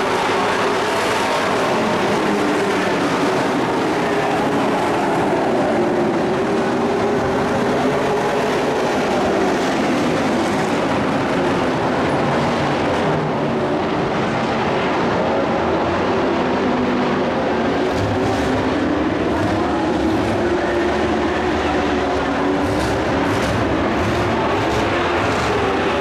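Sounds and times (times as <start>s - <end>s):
race truck engines droning: 0.0s - 26.0s.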